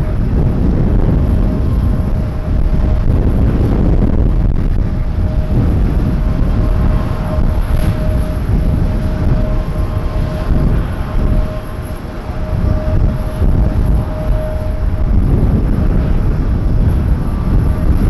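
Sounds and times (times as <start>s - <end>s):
jet airliner flying past: 0.0s - 18.0s.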